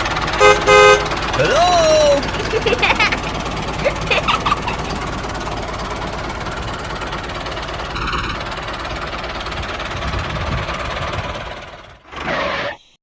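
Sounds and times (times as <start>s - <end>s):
small engine idling with knocking chug: 0.0s - 12.2s.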